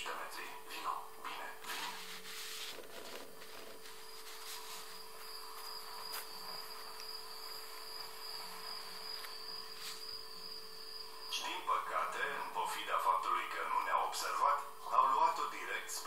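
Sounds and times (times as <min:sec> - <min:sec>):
faint low hum: 0:00.0 - 0:16.0
cricket trilling: 0:00.2 - 0:16.0.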